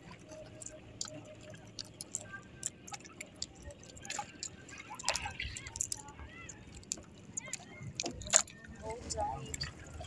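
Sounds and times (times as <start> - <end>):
water dripping: 0.0 - 10.0.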